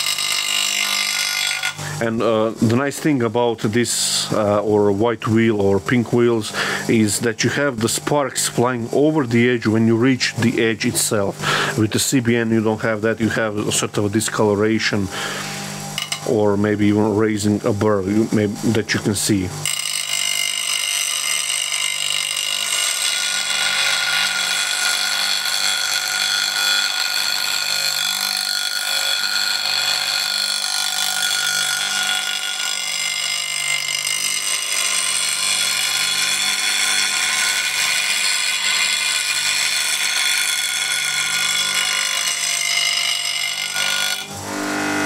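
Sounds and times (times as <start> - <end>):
bench grinder grinding steel: 0.0 - 45.0
grinder high whine: 0.0 - 45.0.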